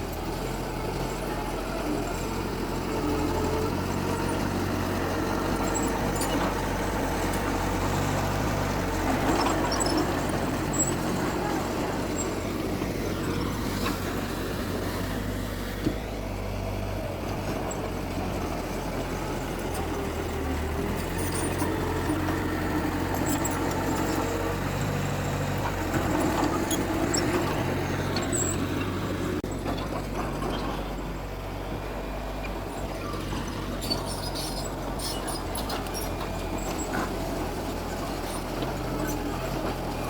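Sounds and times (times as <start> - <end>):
heavy diesel machinery running: 0.0 - 40.0.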